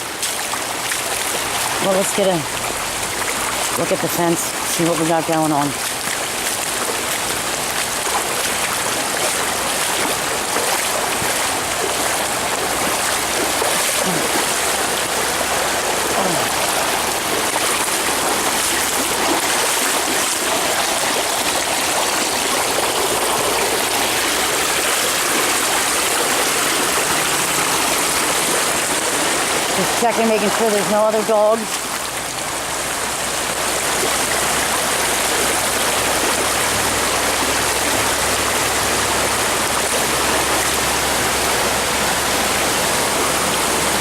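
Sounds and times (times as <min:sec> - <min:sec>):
floodwater rushing: 0:00.0 - 0:44.0.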